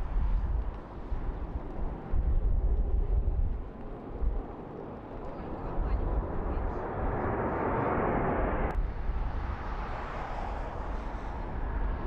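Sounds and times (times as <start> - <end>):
military aircraft flying overhead: 0.0 - 12.0.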